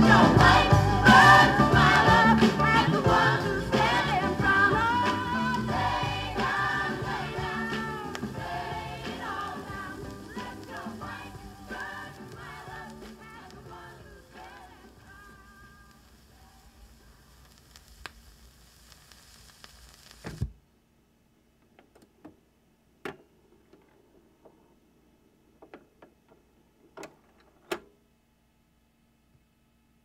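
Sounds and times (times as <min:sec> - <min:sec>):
vinyl surface hiss and crackle: 0:00.0 - 0:28.0.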